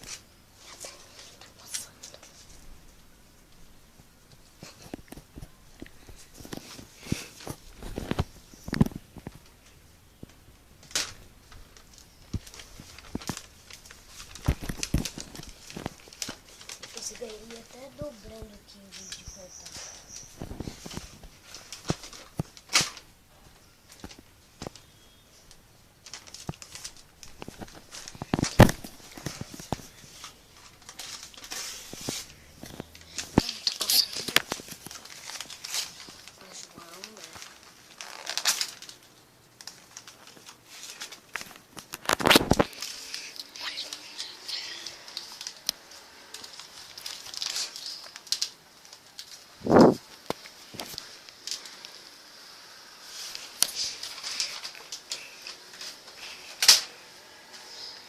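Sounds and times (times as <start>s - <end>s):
paper rustling: 4.3s - 58.0s.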